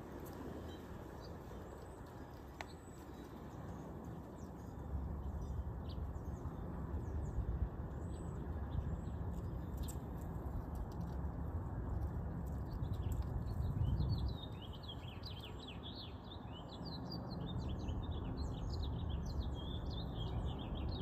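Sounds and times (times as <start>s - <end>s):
noisy outdoor rumble: 0.0s - 21.0s.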